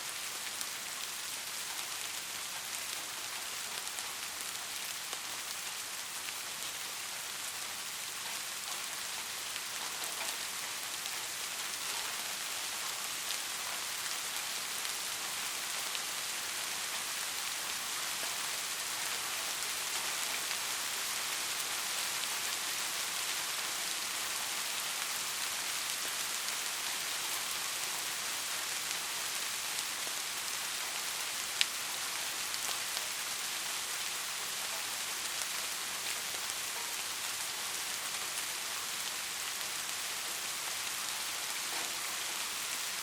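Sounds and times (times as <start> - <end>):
rain on a hard surface: 0.0 - 43.0.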